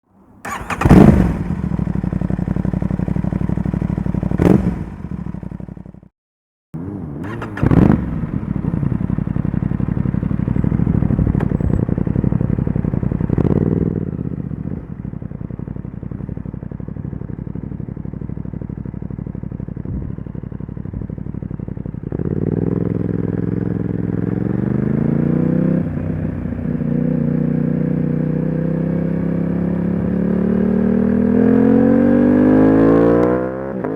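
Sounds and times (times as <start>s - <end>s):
motorcycle engine revving: 0.4s - 6.1s, 6.8s - 33.9s.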